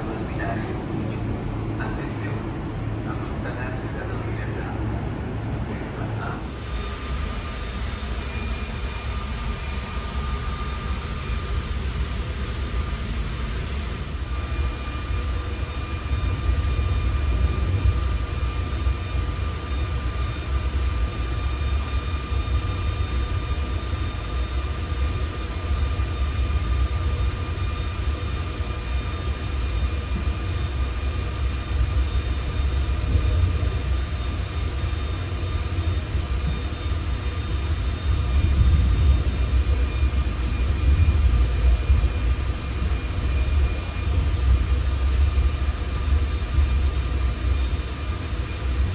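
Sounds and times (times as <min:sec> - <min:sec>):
faint steady whine: 0:00.0 - 0:48.9
train rumbling on rails: 0:00.0 - 0:48.9.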